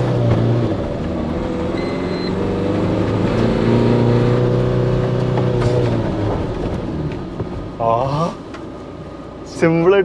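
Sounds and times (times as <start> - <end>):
diesel engine pulling hard: 0.0 - 10.0.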